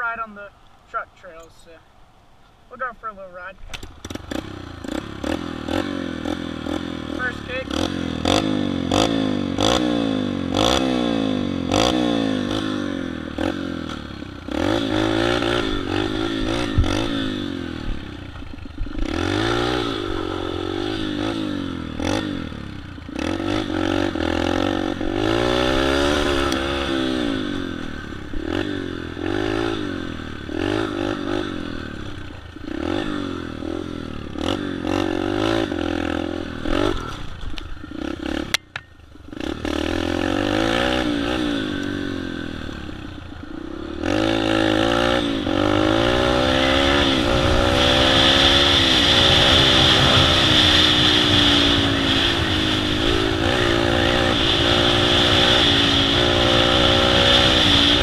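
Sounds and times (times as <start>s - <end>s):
trail bike engine revving: 2.7s - 58.0s.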